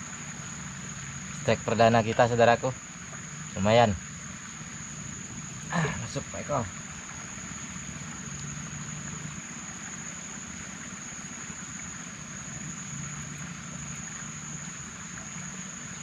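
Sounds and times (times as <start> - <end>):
high-pitched insect drone: 0.0 - 16.0
low even hum: 0.0 - 16.0.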